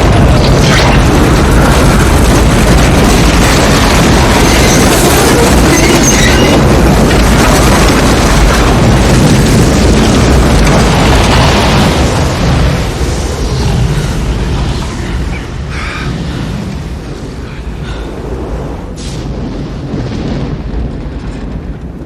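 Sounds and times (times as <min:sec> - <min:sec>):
deep rumble: 0:00.0 - 0:22.0
tornado wind rushing: 0:00.0 - 0:22.0.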